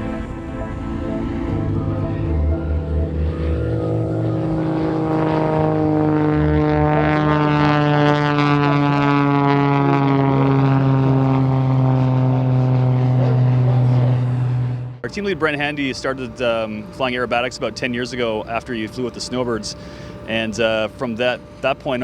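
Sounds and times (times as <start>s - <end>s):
propeller plane passing: 0.0s - 22.0s.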